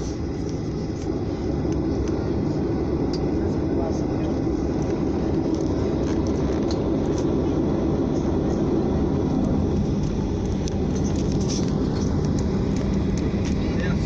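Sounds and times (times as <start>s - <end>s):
jet engine and airflow rumble: 0.0s - 14.0s.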